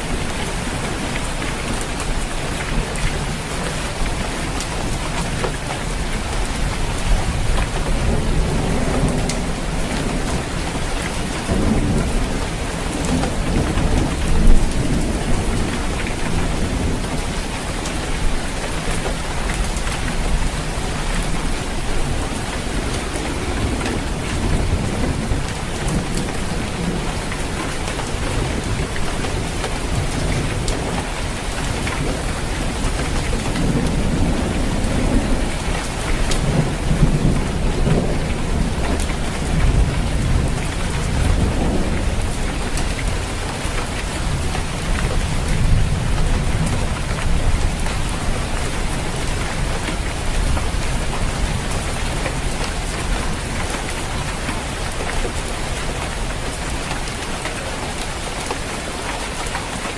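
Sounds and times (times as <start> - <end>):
low thunder rumbling: 0.0 - 57.2
heavy rain on a roof: 0.0 - 59.9.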